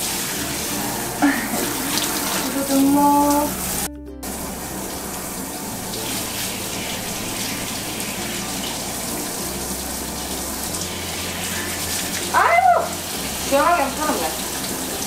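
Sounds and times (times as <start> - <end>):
shower spray splashing: 0.0 - 15.0.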